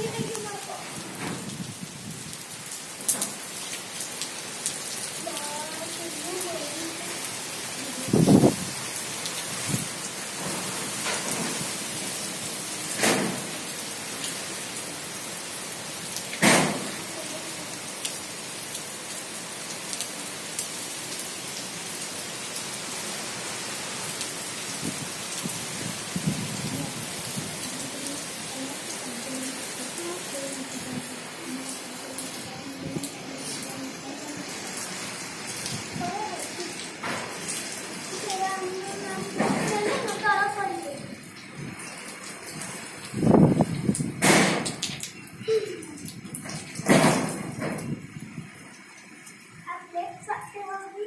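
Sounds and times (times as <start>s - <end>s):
heavy rain hissing: 0.0s - 51.0s
wind: 0.0s - 51.0s.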